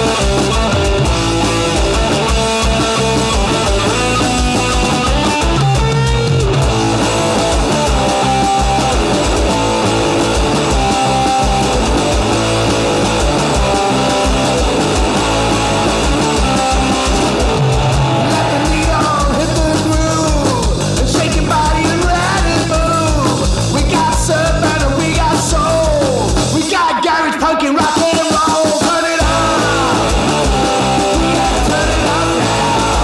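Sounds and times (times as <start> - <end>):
garage rock song: 0.0 - 33.0.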